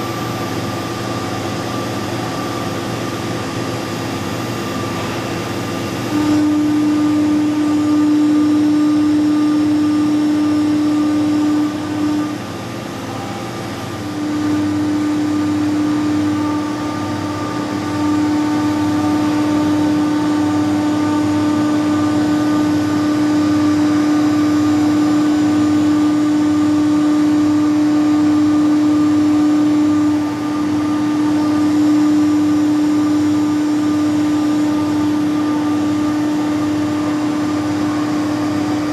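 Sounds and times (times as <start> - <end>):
milling machine spindle whine: 0.0 - 38.9.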